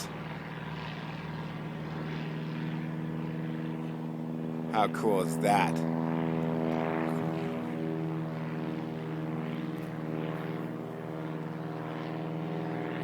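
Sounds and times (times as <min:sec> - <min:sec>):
propeller airplane engine drone: 0:00.0 - 0:13.0.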